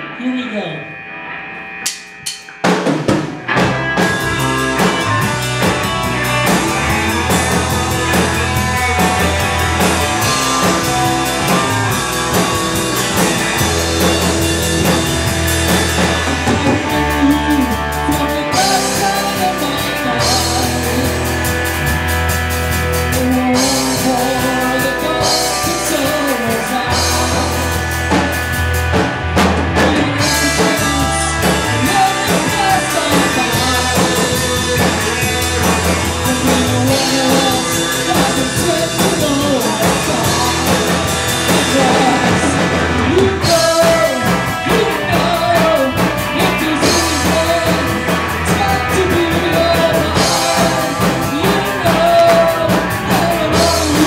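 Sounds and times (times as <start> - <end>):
electric bass: 0.0 - 54.0
electric guitars: 0.0 - 54.0
drum kit beat: 1.8 - 54.0
man singing lead: 4.0 - 54.0.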